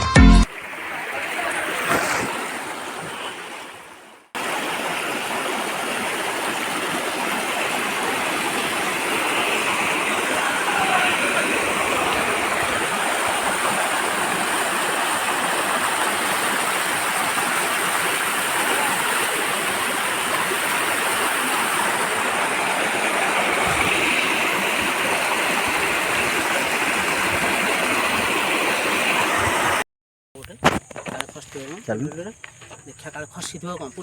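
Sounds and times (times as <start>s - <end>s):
waterfall rushing: 0.0s - 29.8s.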